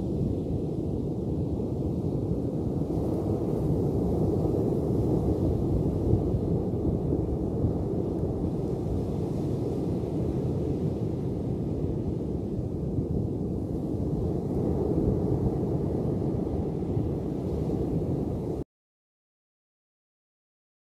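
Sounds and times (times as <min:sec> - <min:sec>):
ocean surf rumble: 0:00.0 - 0:18.6.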